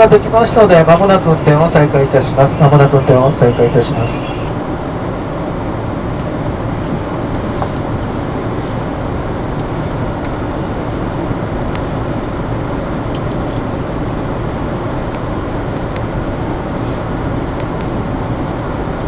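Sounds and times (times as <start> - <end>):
train carriage hum and rumble: 0.0 - 19.0.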